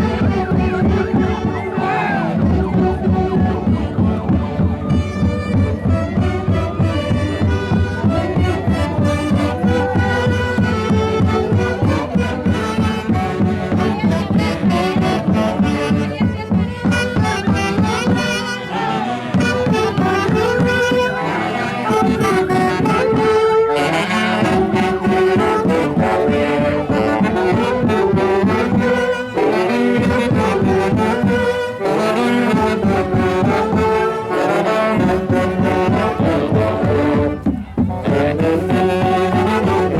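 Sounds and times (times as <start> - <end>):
brass section melody: 0.0 - 39.9.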